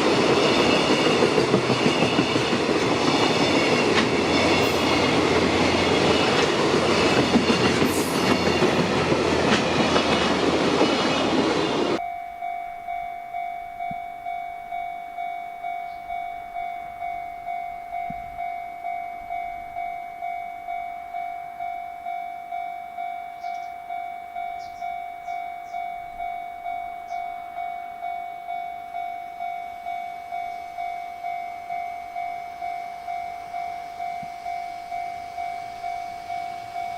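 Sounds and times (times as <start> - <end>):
freight train wheels on rails: 0.0 - 12.0, 12.9 - 36.9
level crossing warning bell: 0.0 - 36.9.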